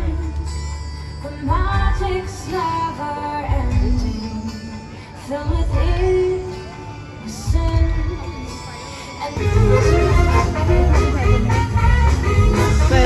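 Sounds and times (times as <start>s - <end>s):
woman singing: 0.0s - 10.2s, 10.8s - 13.0s.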